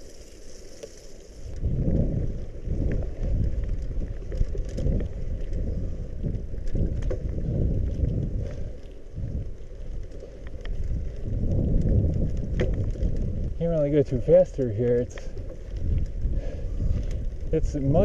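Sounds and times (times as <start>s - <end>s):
bicycle tyre noise: 0.0s - 18.0s
wind buffeting microphone: 1.5s - 18.0s.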